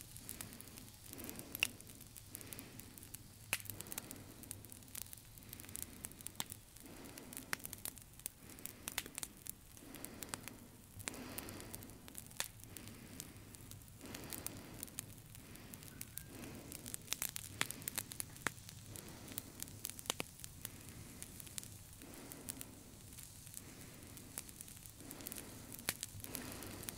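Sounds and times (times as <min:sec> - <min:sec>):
crackles and sharp clicks: 0:00.0 - 0:26.9
processed breathing noise: 0:00.0 - 0:26.9.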